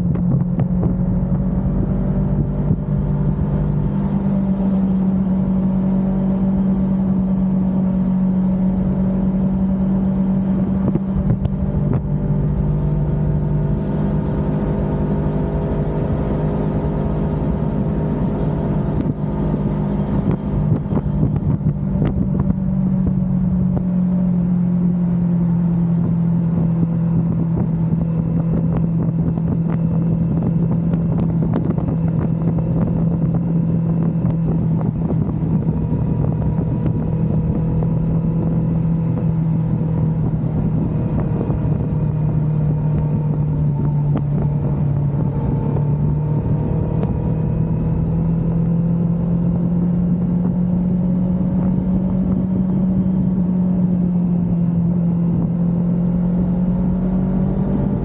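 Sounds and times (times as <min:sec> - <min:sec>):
motorcycle engine cruising: 0:00.0 - 0:58.0
road noise: 0:00.0 - 0:58.0
wind noise: 0:00.0 - 0:58.0.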